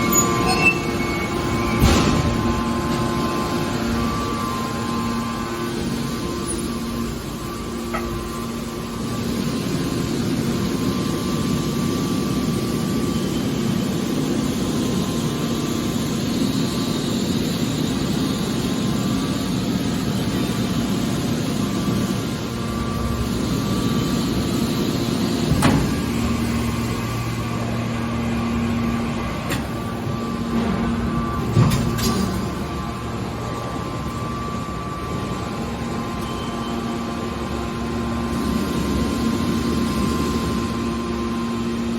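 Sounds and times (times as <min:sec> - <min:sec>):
hydraulic baler humming: 0:00.0 - 0:41.9.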